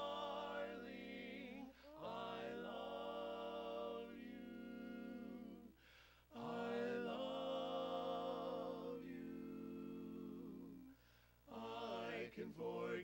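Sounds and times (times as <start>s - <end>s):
men singing a cappella chord: 0.0s - 13.0s.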